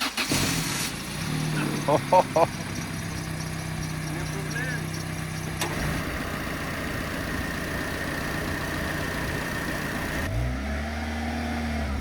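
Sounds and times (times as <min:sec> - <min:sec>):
car engine running with hiss: 0:00.0 - 0:10.4.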